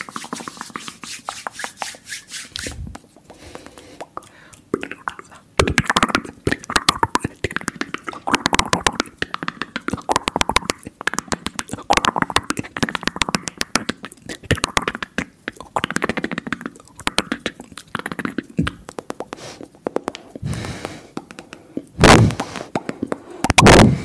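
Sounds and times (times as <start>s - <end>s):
wet mouth clicks and pops: 2.6s - 23.9s
breathy mouth sounds: 2.6s - 24.0s.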